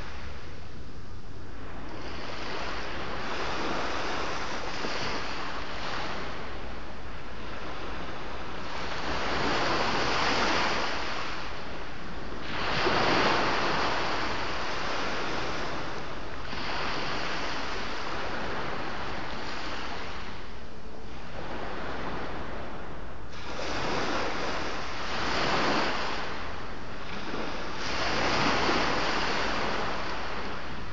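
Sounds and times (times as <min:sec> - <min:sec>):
sea waves breaking on shore: 0:00.0 - 0:30.9.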